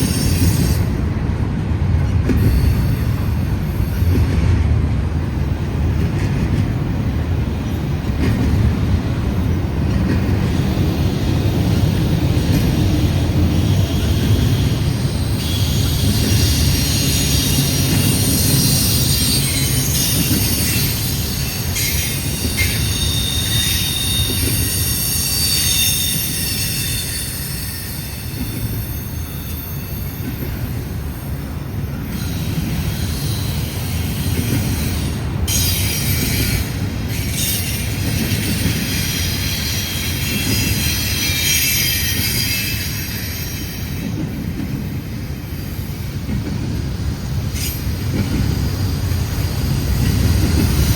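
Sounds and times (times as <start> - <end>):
train wheel squeal: 0.0 - 6.8, 7.4 - 50.9
freight train rumble: 0.0 - 50.9.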